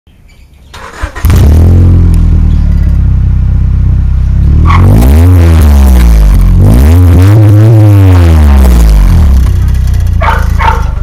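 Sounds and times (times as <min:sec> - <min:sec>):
car engine idling and revving: 0:00.8 - 0:11.0.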